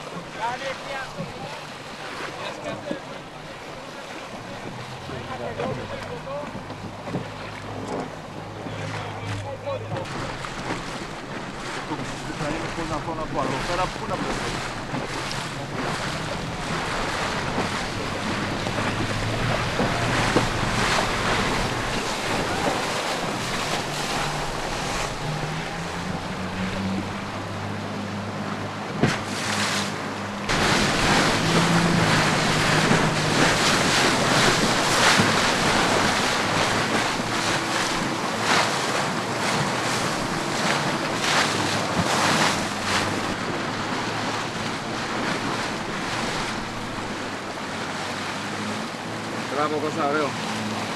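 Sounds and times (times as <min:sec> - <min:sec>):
water rushing past hull: 0:00.0 - 0:50.9.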